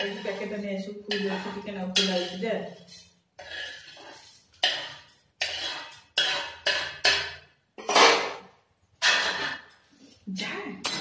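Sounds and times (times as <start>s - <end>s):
kitchen utensils clattering: 0.0s - 10.0s, 10.8s - 11.0s.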